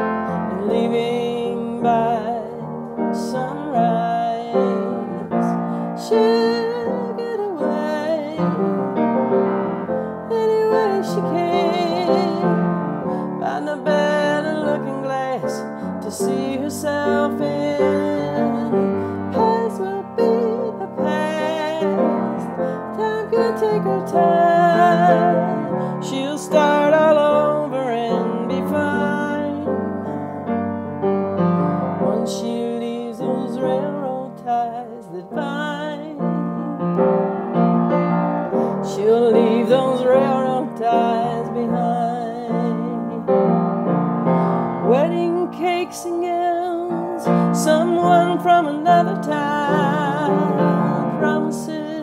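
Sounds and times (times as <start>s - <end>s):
woman singing slow song: 0.0s - 9.1s, 10.0s - 30.4s, 31.6s - 37.3s, 38.6s - 43.5s, 44.8s - 52.0s
piano accompaniment: 0.0s - 52.0s.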